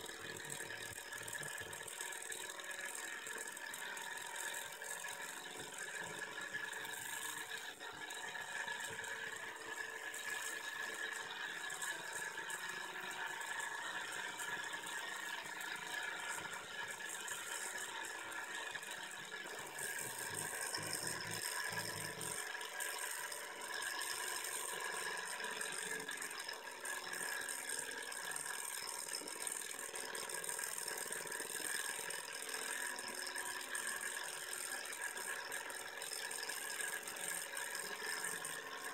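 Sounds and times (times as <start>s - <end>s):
engine rattle and whir: 0.0s - 38.9s.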